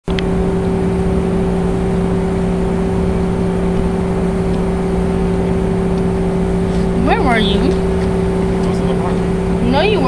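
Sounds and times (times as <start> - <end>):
even rushing noise: 0.1 - 10.0
machine hum: 0.1 - 10.0.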